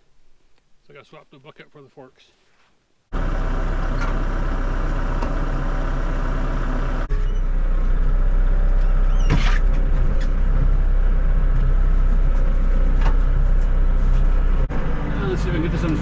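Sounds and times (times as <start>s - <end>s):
tractor diesel engine idling: 3.1s - 16.0s.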